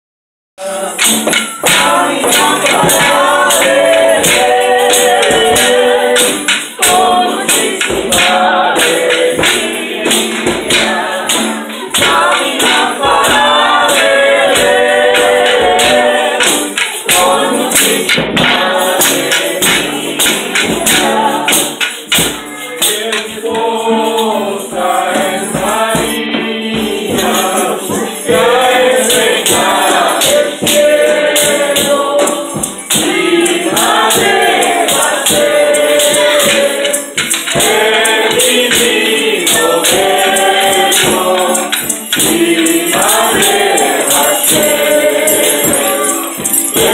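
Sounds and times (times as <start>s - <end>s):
adults and children singing: 0.6s - 46.9s
hand percussion beat: 0.6s - 46.9s.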